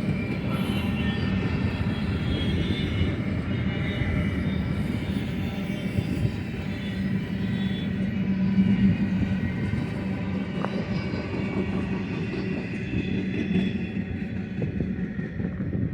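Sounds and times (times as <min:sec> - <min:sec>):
train cars rolling on rails: 0:00.0 - 0:15.9.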